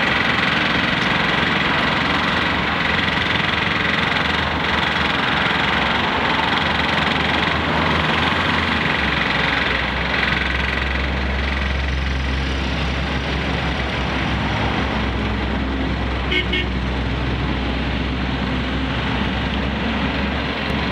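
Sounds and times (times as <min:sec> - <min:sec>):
deep engine rumble: 0:00.0 - 0:20.9
street traffic: 0:00.0 - 0:20.9
vehicle engine running: 0:00.0 - 0:20.9.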